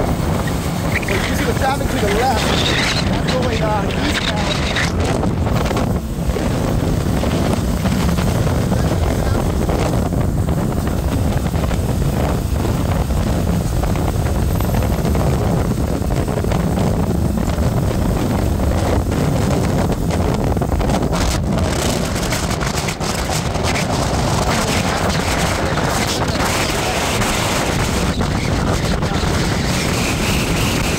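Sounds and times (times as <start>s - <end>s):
vehicle road noise: 0.0s - 30.9s
wind buffeting microphone: 0.0s - 30.9s.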